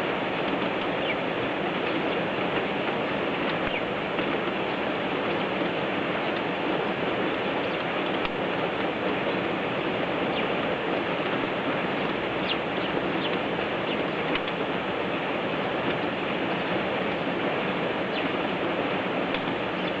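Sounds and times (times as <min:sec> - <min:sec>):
steady rushing background noise: 0:00.0 - 0:20.0.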